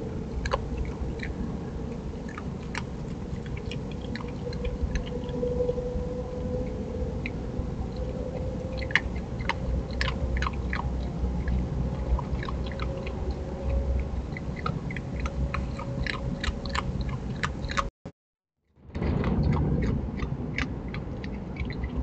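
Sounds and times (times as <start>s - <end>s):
low rumbling background: 0.0s - 17.9s, 18.7s - 22.0s
opossum chewing dry food: 0.0s - 17.9s, 18.9s - 22.0s.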